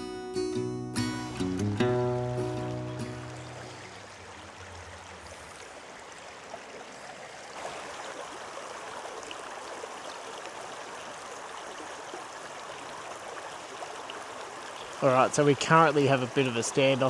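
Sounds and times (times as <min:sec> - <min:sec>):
river water rushing: 0:01.9 - 0:17.0.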